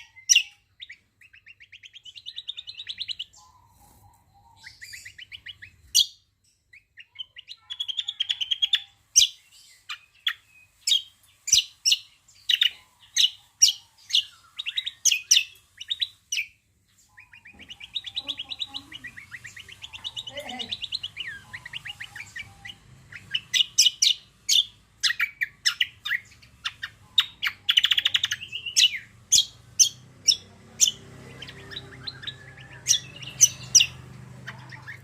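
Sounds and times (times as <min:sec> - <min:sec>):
songbird trilling and chirping: 0:00.0 - 0:35.0.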